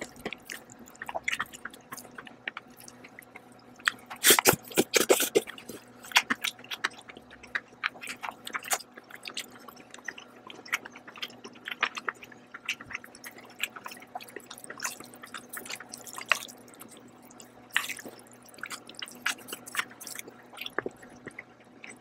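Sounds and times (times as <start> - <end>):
wet chewing mouth clicks: 0.0 - 22.0.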